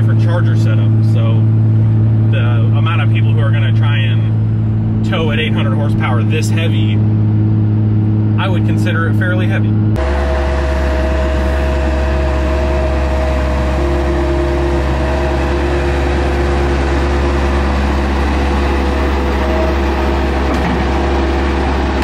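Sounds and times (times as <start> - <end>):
loader diesel engine running: 0.0 - 22.0.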